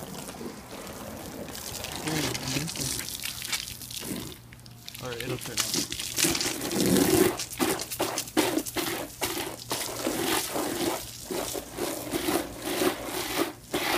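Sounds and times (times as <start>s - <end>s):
hose water spraying and splashing: 0.0s - 13.9s.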